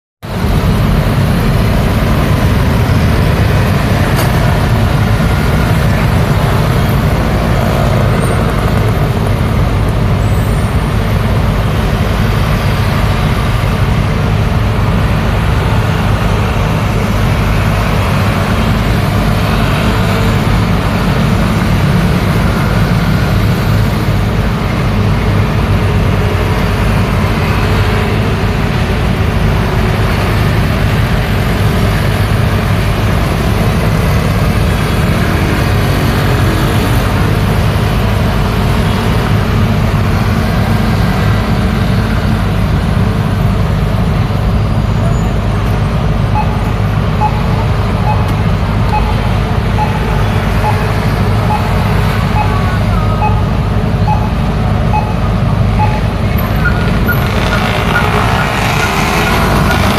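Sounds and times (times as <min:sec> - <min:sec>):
scooters and cars passing: 0:00.3 - 0:10.2, 0:10.8 - 0:59.9.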